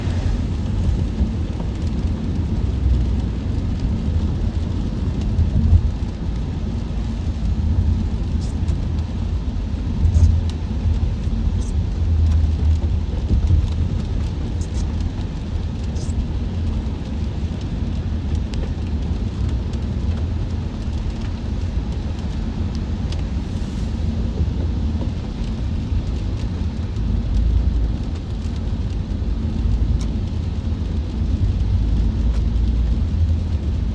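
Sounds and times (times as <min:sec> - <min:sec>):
car road rumble on wet pavement: 0:00.0 - 0:33.9.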